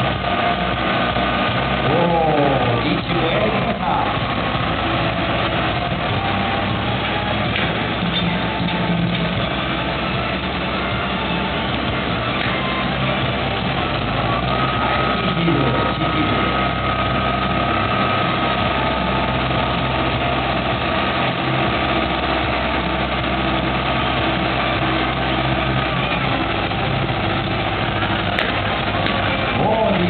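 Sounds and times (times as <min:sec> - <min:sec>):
crane engine running: 0:00.0 - 0:30.0
thin steady whine: 0:00.0 - 0:30.0.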